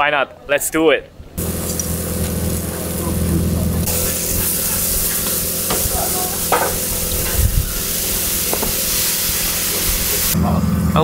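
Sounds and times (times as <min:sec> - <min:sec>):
meat sizzling on griddle: 0:01.4 - 0:10.4.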